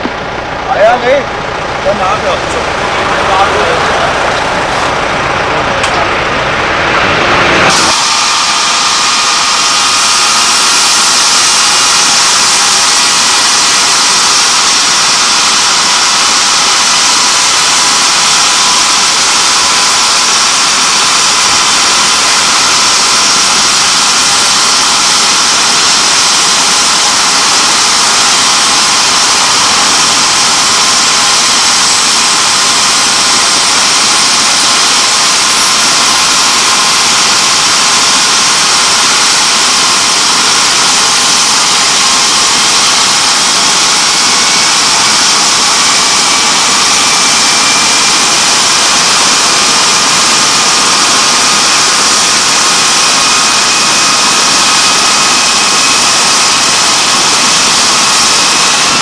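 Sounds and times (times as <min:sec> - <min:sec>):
faint high whine: 0:00.0 - 0:59.0
helicopter turbine whine: 0:00.0 - 0:59.0.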